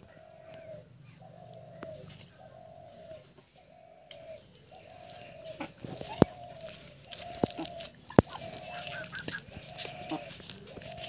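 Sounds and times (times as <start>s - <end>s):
bird calling with low note: 0.0s - 11.0s.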